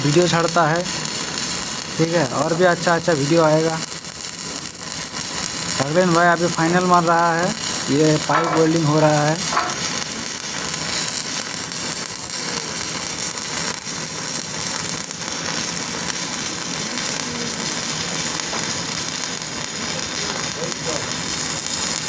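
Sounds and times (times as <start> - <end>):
welding arc crackling and sizzling: 0.0 - 22.0.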